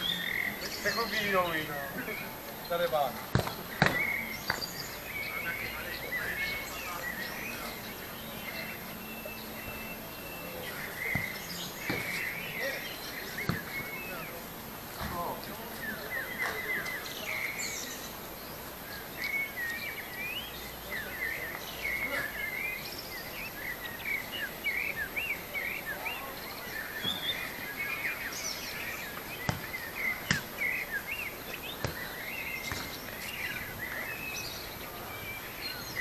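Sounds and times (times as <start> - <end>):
outdoor background hiss: 0.0 - 36.0
small birds chirping and singing: 0.0 - 36.0.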